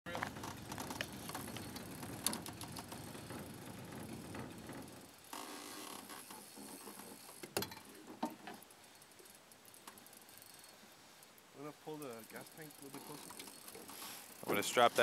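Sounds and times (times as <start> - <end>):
fishing reel rattling: 0.1 - 15.0.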